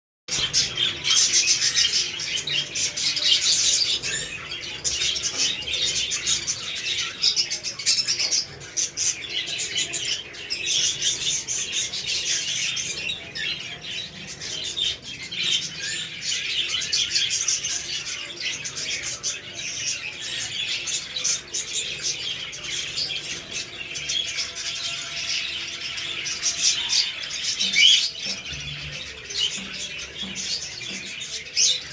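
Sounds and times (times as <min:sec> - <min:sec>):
budgerigars chirping and warbling: 0:00.3 - 0:31.9.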